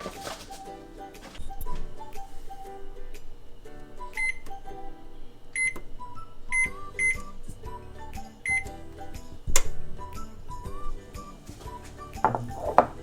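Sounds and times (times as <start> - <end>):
upbeat background music: 0.0 - 13.0.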